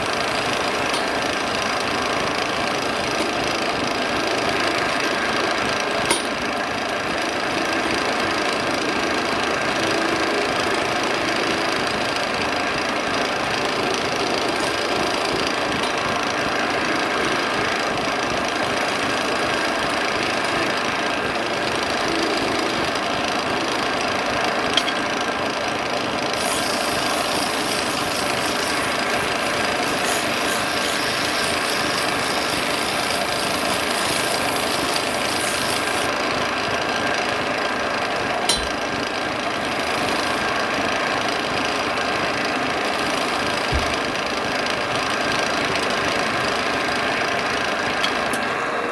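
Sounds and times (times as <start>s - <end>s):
wood lathe humming and rattling: 0.0s - 48.9s.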